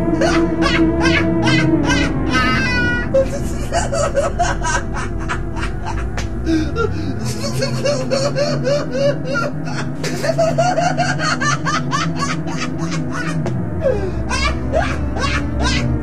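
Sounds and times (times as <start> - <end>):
person giggling and snickering: 0.0 - 16.0.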